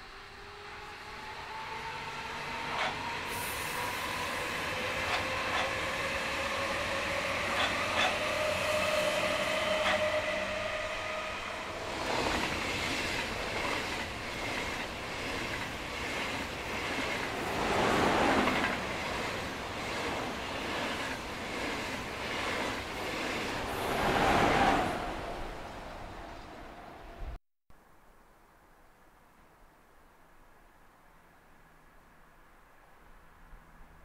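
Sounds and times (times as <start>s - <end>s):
high-speed train rushing past: 0.0s - 27.4s
train whine: 0.0s - 27.4s.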